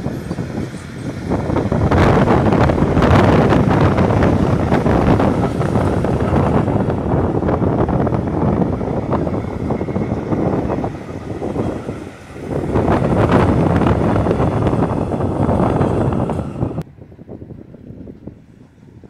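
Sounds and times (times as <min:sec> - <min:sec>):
freight train wheels rumbling: 0:00.0 - 0:19.0
wind on microphone: 0:00.0 - 0:19.0.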